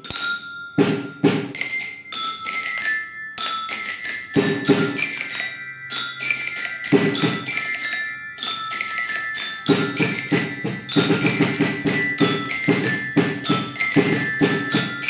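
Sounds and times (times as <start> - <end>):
bell lyre melody: 0.0 - 15.0.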